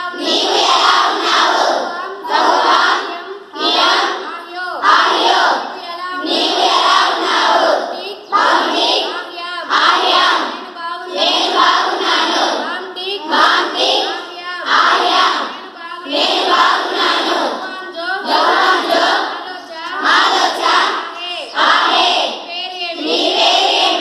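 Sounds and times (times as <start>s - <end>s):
girls speaking in unison: 0.0s - 24.0s.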